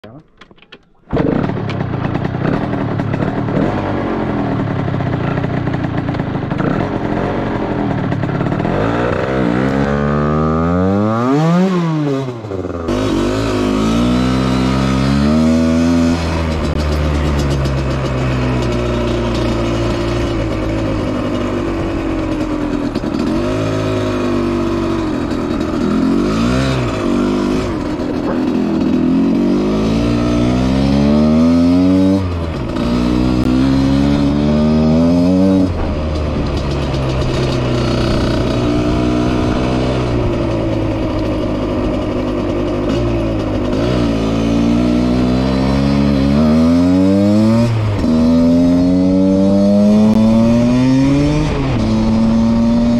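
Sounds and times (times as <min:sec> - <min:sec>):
motorcycle engine revving: 0:01.0 - 0:52.9.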